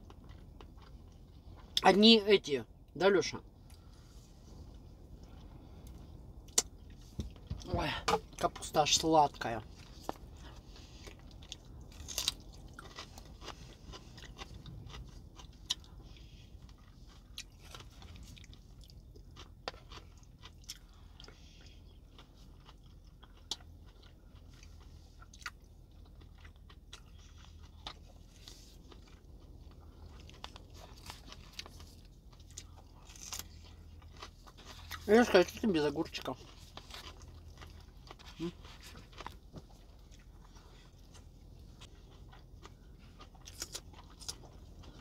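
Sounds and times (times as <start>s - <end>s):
chewing with sharp crunches: 0.0s - 45.0s.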